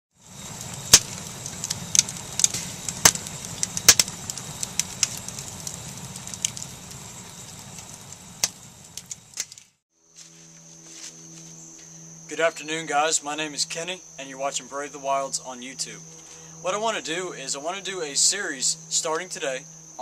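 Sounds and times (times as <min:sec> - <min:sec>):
wood fire crackling: 0:00.1 - 0:09.8, 0:11.8 - 0:20.0.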